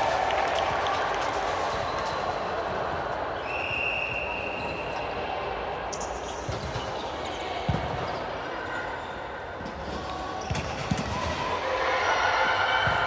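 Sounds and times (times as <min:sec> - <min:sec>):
hubbub of gym hall: 0:00.0 - 0:13.0.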